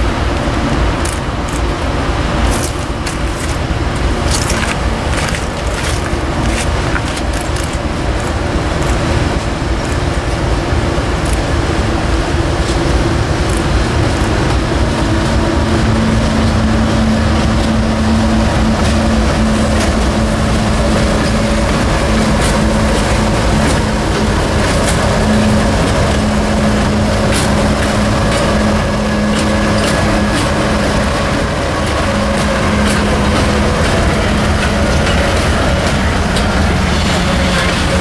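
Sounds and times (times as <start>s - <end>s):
diesel locomotive engines droning: 0.0s - 38.0s
wheels rumbling on rails: 0.0s - 38.0s.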